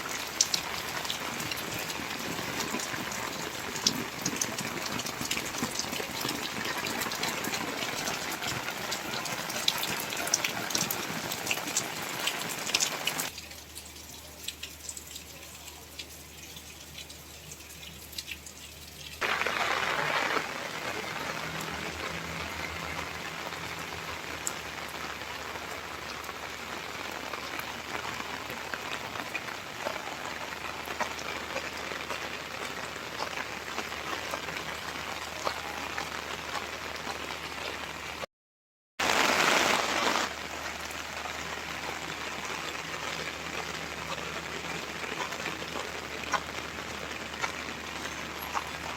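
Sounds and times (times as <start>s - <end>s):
rain pattering: 0.0s - 38.3s, 39.0s - 48.9s.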